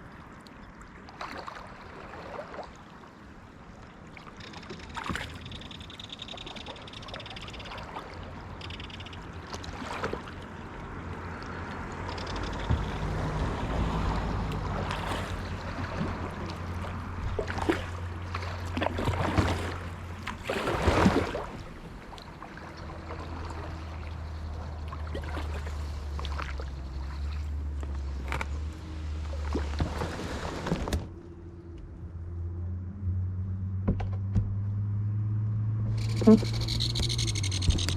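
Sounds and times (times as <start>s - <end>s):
kayak paddle splashing: 0.0s - 31.0s
water gurgling along hull: 0.0s - 32.0s, 35.8s - 37.9s.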